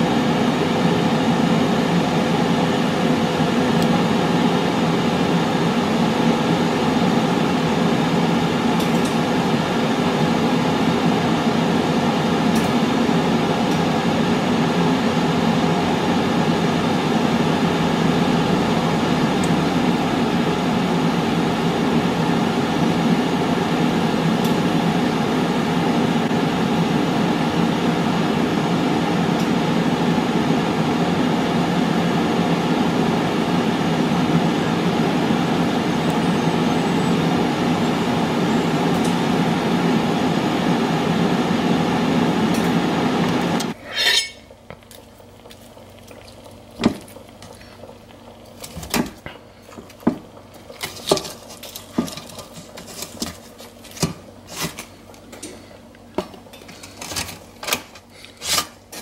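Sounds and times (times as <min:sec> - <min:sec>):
air fryer fan running: 0:00.0 - 0:59.0.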